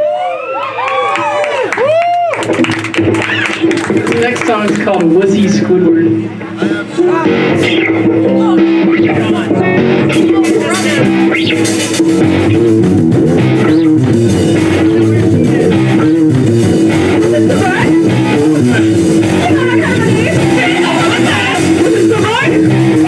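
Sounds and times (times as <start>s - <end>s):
live rock band playing: 2.4s - 23.0s.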